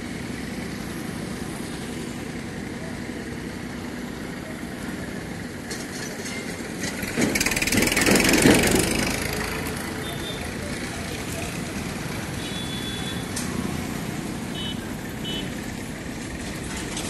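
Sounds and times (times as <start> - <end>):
motor vehicle engine approaching: 0.0 - 17.0.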